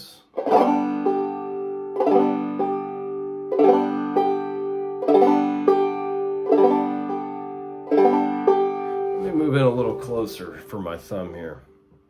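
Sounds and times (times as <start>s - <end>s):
banjo clawhammer strumming: 0.0s - 11.7s.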